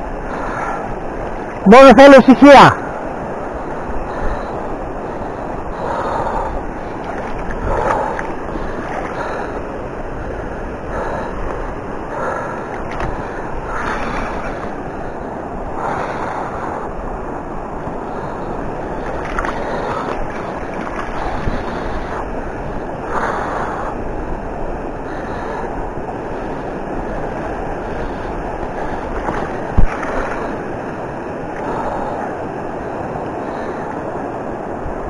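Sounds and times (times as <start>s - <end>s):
fast-flowing river water: 0.0s - 35.0s
wind buffeting microphone: 2.8s - 35.0s.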